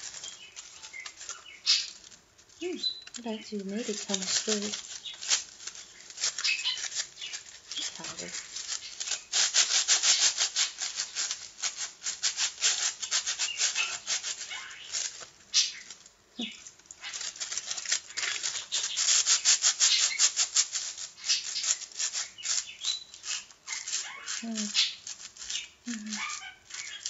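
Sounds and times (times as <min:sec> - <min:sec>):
aluminium foil crinkling: 0:00.0 - 0:27.0.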